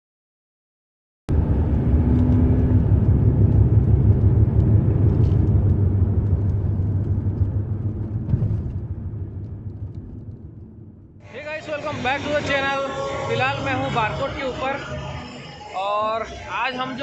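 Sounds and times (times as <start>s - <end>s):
engine and road rumble: 1.3s - 17.0s.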